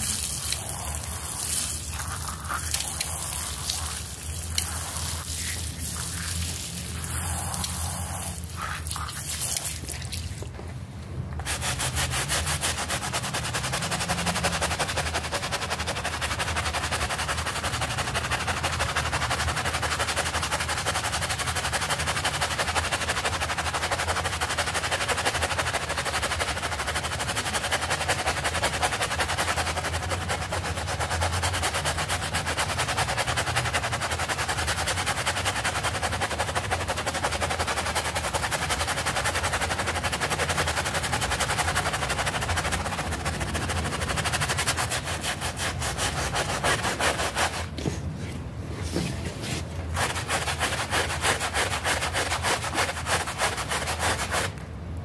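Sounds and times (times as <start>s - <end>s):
brush scrubbing wet carpet: 0.0s - 10.5s, 11.4s - 54.6s.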